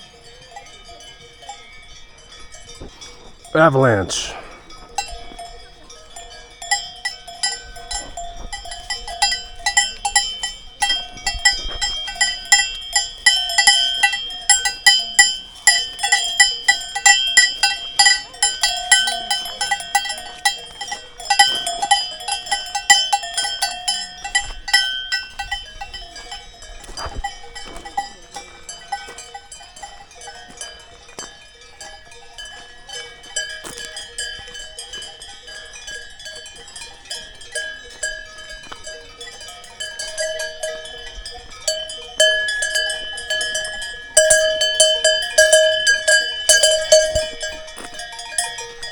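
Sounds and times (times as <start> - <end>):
cowbells clanging: 0.0 - 48.9.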